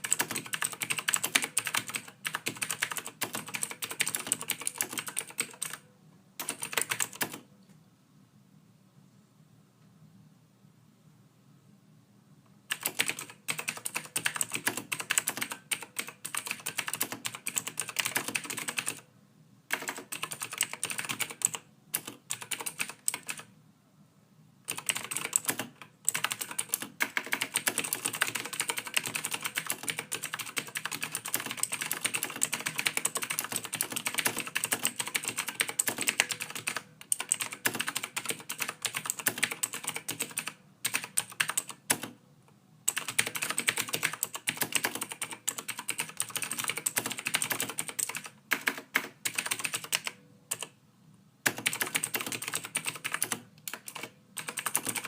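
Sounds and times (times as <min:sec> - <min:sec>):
fast typing on keyboard: 0:00.0 - 0:05.8, 0:06.4 - 0:07.4, 0:12.7 - 0:19.0, 0:19.7 - 0:23.5, 0:24.7 - 0:42.2, 0:42.9 - 0:50.7, 0:51.4 - 0:55.0.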